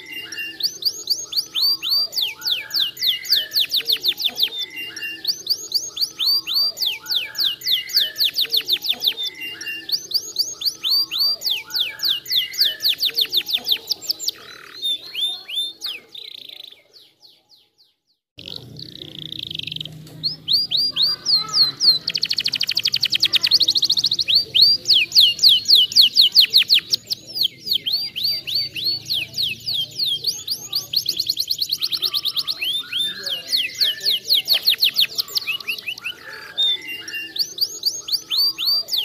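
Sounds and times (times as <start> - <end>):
canary singing: 0.0 - 39.0.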